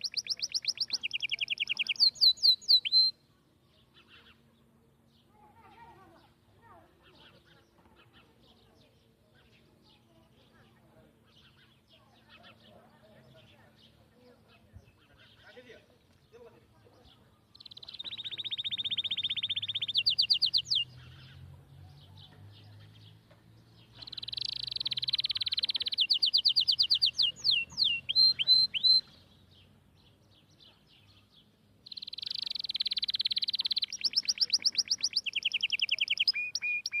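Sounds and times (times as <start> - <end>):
songbird singing trills and chirps: 0.0 - 37.0.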